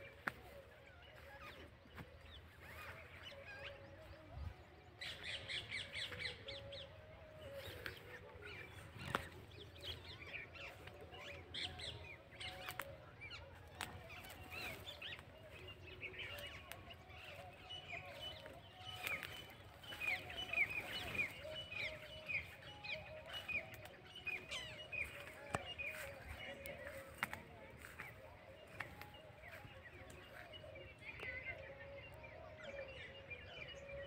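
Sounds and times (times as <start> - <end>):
birds chirping and calling: 0.0 - 34.0.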